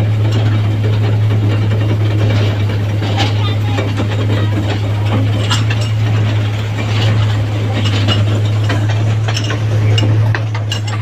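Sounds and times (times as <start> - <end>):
carriages rattling and clicking: 0.0 - 11.0.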